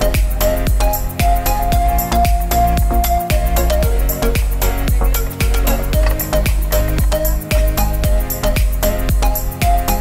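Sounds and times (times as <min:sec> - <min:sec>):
music with fast beat and heavy bass: 0:00.0 - 0:10.0.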